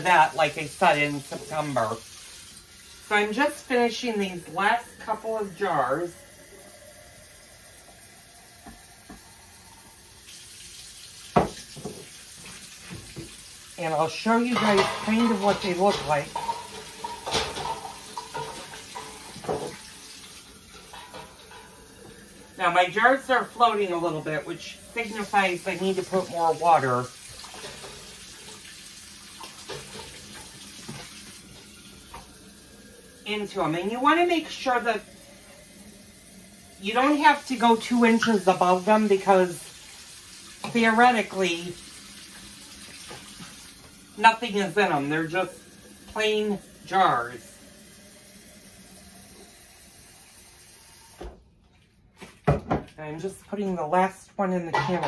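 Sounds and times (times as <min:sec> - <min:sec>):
faucet running into a jar: 0:00.1 - 0:51.2.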